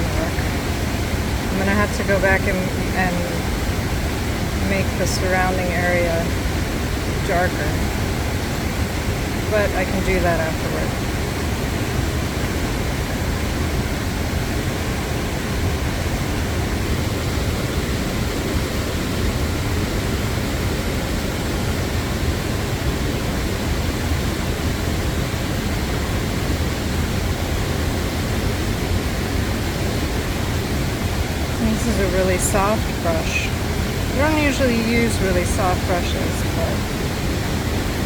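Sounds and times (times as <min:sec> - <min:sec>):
river and waterfall rushing: 0:00.0 - 0:38.0.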